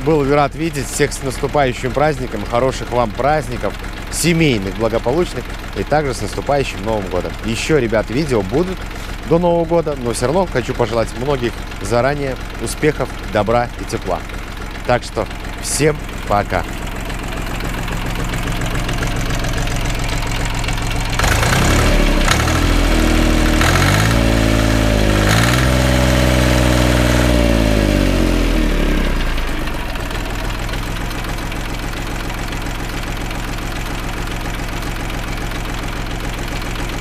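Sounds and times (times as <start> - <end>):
diesel engine idling and revving: 0.0 - 37.0
engine knocking: 0.0 - 37.0.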